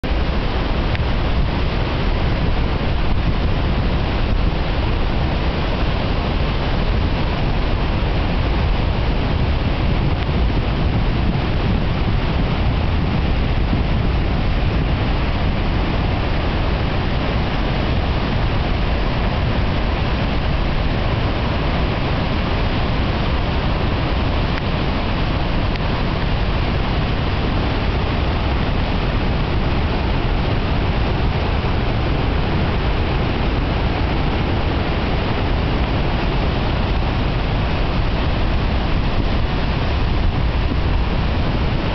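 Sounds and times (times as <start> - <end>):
river rapids rushing: 0.0 - 41.9.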